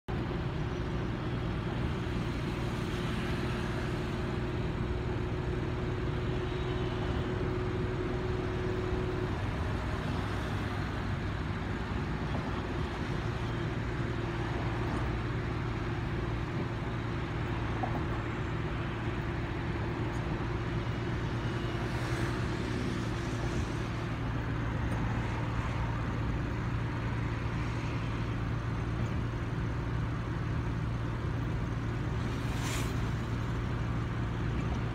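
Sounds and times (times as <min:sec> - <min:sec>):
car engine drone: 0:00.1 - 0:34.9.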